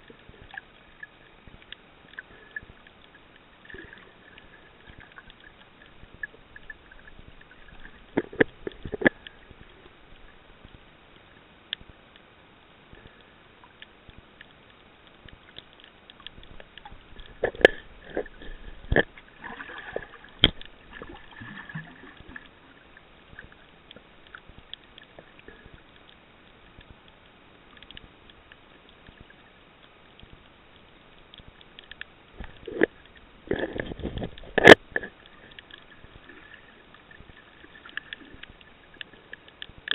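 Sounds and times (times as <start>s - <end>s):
low underwater hiss: 0.0s - 39.9s.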